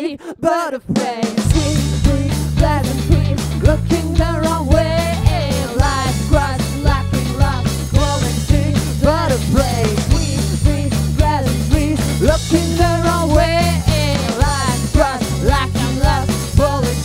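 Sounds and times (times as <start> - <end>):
woman singing: 0.0 - 17.0
drum kit beat: 1.0 - 17.0
bass guitar: 1.4 - 17.0
electric guitar: 1.5 - 17.0.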